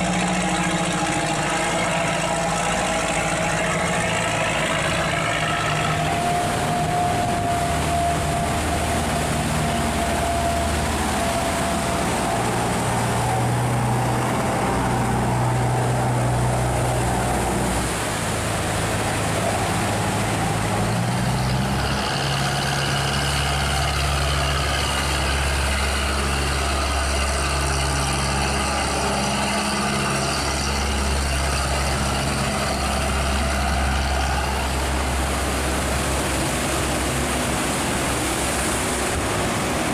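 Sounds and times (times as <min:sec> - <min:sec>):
boat engines running: 0:00.0 - 0:39.9
churning water rushing: 0:00.0 - 0:39.9.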